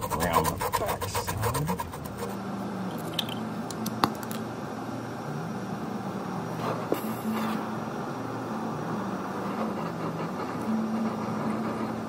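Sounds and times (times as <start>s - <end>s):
low humming: 0.0s - 12.0s.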